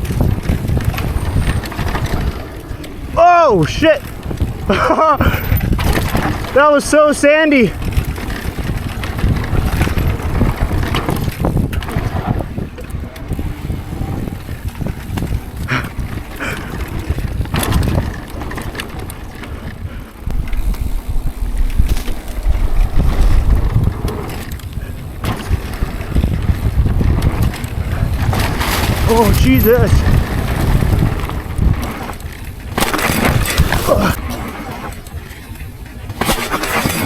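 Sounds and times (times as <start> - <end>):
bike knocking over bumps: 0.0 - 37.0
tyres rumbling over dirt: 0.0 - 37.0
wind buffeting microphone: 0.0 - 37.0.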